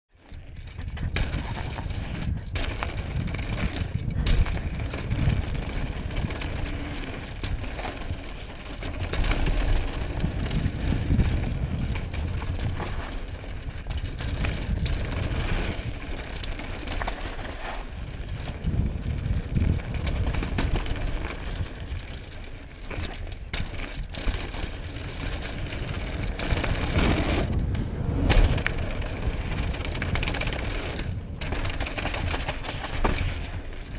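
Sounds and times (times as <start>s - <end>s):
bike knocking and rattling: 0.1s - 33.9s
bike tyres on dirt trail: 0.1s - 33.9s
wind on microphone: 0.5s - 22.2s, 23.5s - 33.9s.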